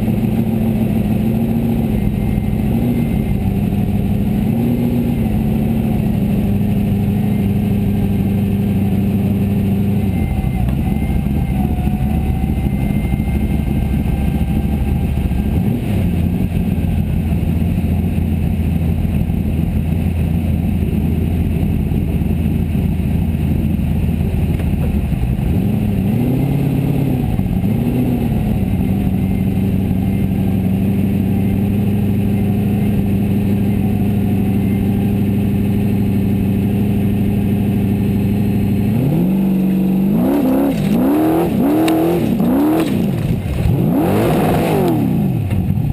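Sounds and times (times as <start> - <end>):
buggy engine revving: 0.0 - 45.9.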